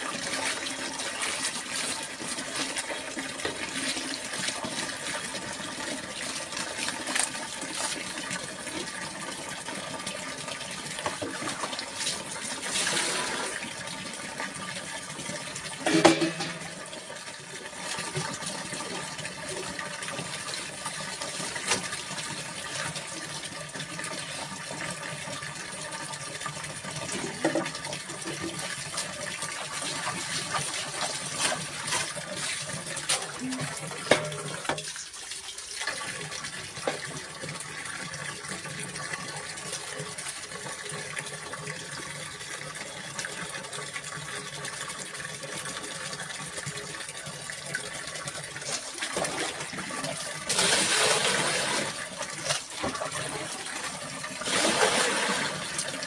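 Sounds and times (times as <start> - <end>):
water running and splashing: 0.0 - 56.0.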